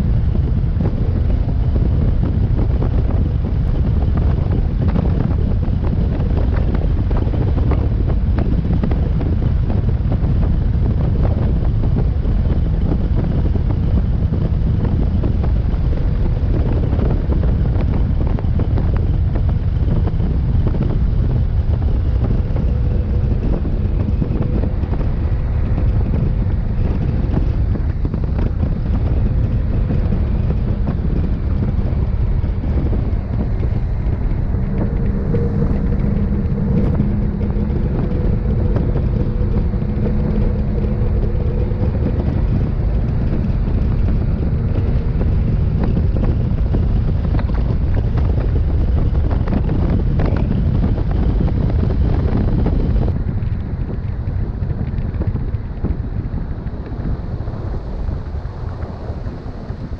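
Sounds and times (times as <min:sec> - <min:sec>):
boat motor running: 0:00.0 - 0:59.9
wind buffeting microphone: 0:00.0 - 0:59.9.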